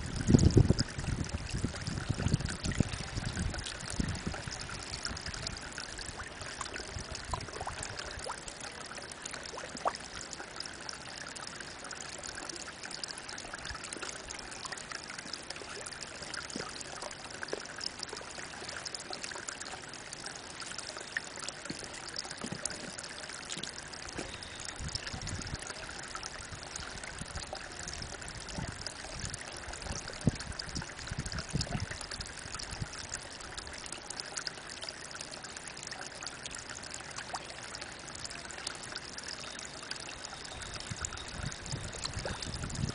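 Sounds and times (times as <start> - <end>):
water trickling into a pond: 0.0 - 42.9.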